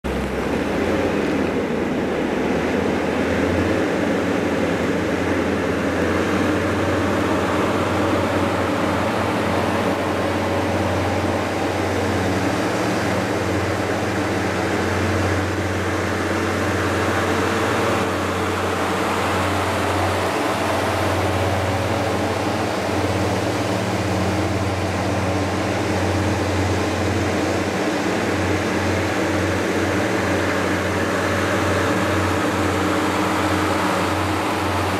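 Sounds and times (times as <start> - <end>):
heavy truck engines droning: 0.0 - 34.9.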